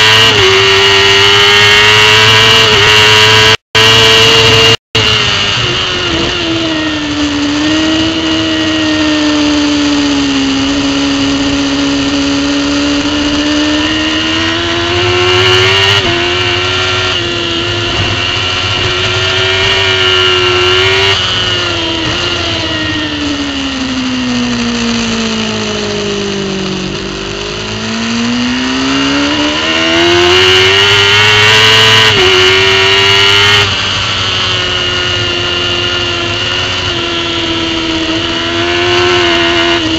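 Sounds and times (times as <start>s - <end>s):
superbike engine running hard: 0.0s - 39.9s.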